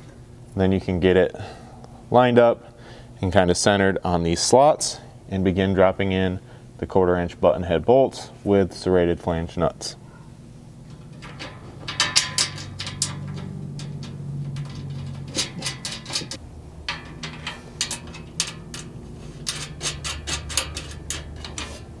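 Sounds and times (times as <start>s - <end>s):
faint low hum: 0.0s - 21.8s.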